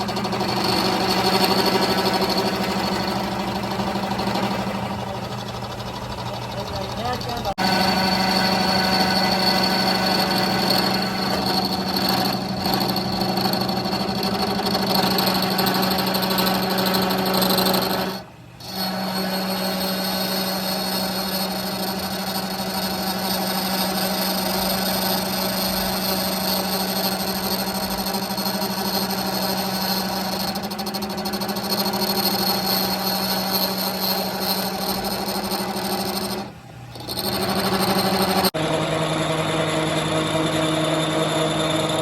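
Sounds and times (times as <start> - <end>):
power tool motor hum: 0.0 - 6.6, 7.6 - 42.0.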